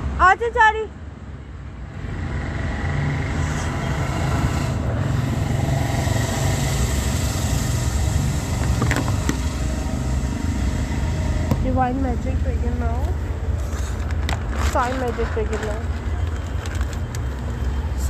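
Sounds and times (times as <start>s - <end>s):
engine rumbling: 1.2s - 18.0s.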